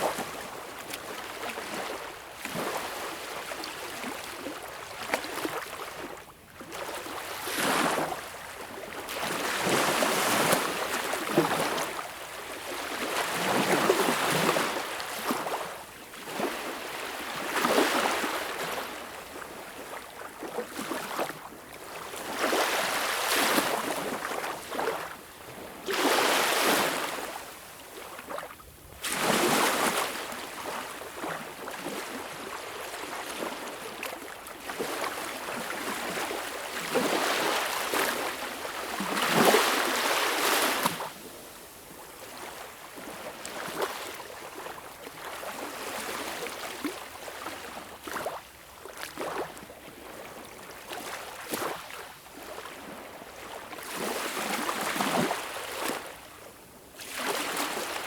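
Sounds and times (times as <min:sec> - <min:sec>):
waves washing up a beach: 0:00.0 - 0:58.0.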